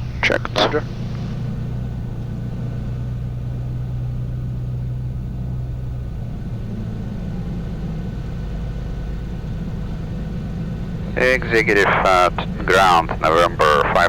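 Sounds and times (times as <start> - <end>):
propeller plane engine in cabin: 0.0 - 14.0.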